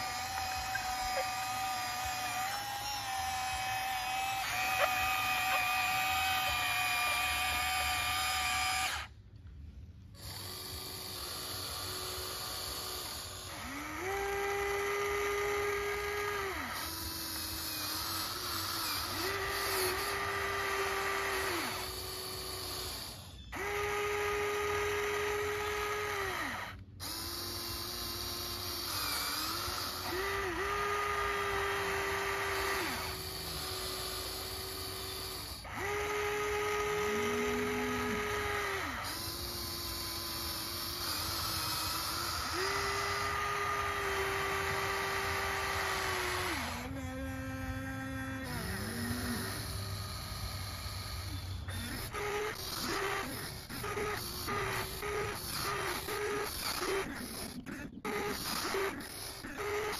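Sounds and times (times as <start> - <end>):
electric motors whining: 0.0 - 59.9.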